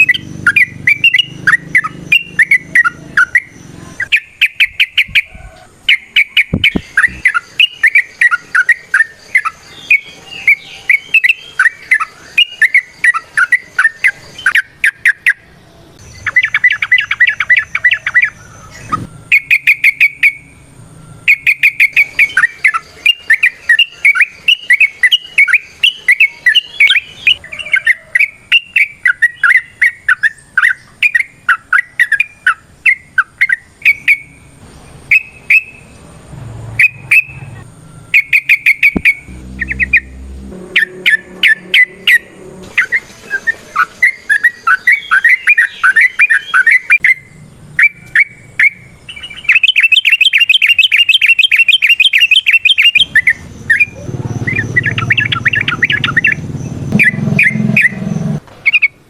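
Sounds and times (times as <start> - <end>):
bird singing bubbly notes: 0.0 - 5.3, 5.9 - 36.0, 36.8 - 59.0
bird chattering: 0.0 - 20.5, 21.3 - 34.4, 35.0 - 35.9, 36.8 - 58.0, 58.6 - 59.0.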